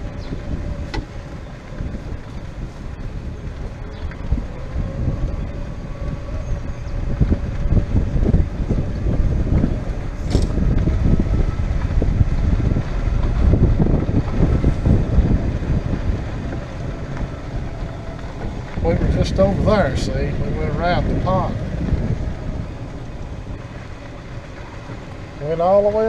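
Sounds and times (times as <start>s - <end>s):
golf cart rolling rumble: 0.0s - 26.0s
wind buffeting microphone: 0.0s - 26.0s.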